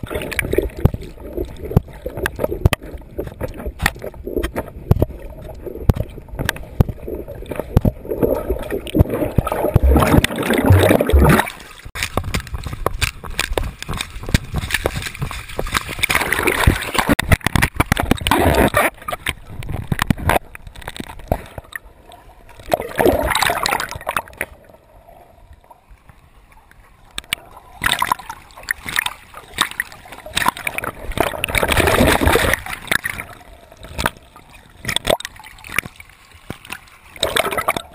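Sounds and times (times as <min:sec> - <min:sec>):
water splashing and gurgling: 0:00.0 - 0:37.9.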